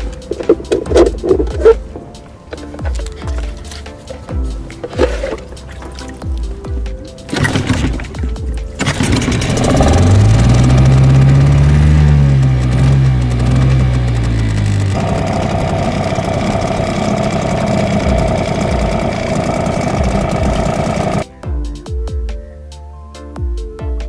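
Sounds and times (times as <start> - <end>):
outboard motor running: 0.0 - 21.2.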